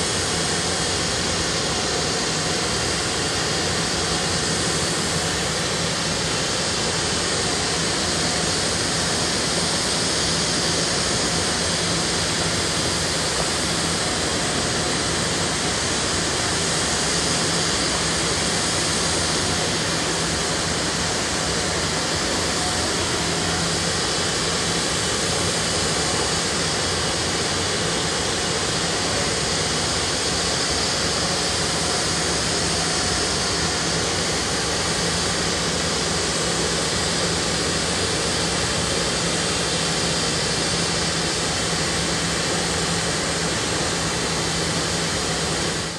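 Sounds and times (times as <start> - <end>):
industrial rushing roar: 0.0 - 45.9.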